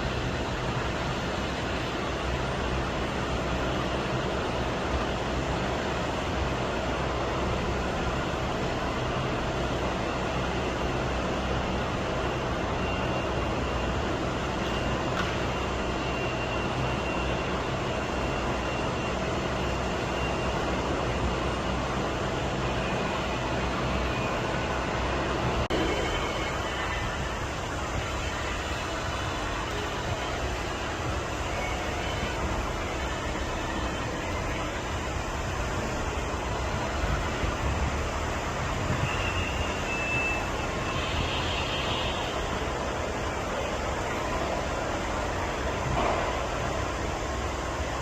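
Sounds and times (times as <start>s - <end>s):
faint high whine: 0.0s - 48.0s
jet engines rushing: 0.0s - 48.0s.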